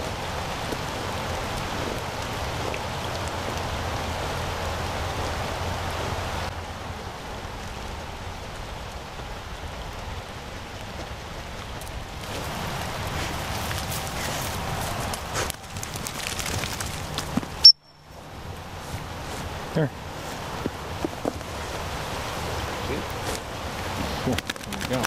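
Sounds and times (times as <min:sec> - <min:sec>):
rain falling on water: 0:00.0 - 0:25.0.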